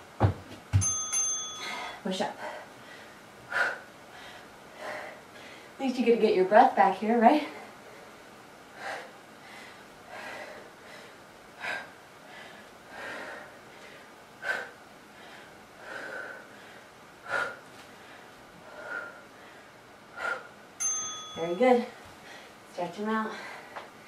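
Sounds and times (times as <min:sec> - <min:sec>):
woman breathing hard: 0:01.6 - 0:05.8, 0:07.5 - 0:20.6, 0:22.1 - 0:24.0.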